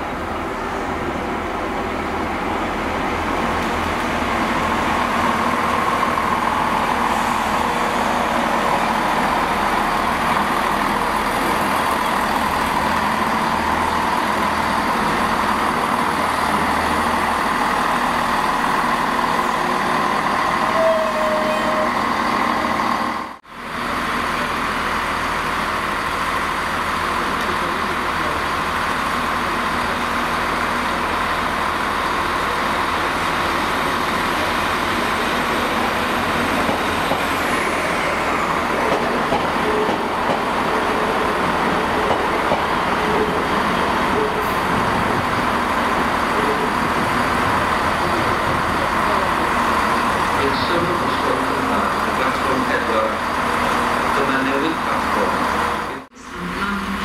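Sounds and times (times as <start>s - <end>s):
diesel train passing: 0.0s - 57.0s
freight locomotive engine running: 0.0s - 57.0s.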